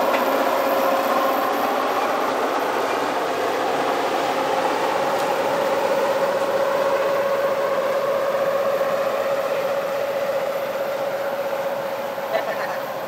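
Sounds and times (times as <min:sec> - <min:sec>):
armoured vehicle diesel engine: 0:00.0 - 0:13.0
drivetrain whine: 0:00.0 - 0:13.0.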